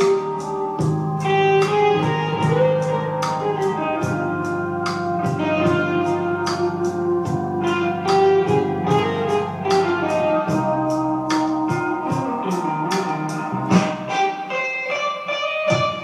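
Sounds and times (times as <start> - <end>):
electric guitar melody: 0.0 - 16.0.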